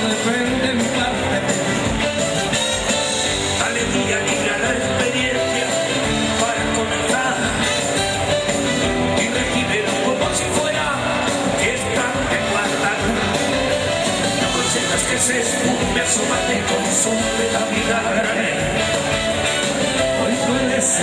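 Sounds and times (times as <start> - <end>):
acoustic guitar: 0.0 - 21.0
live band music: 0.0 - 21.0.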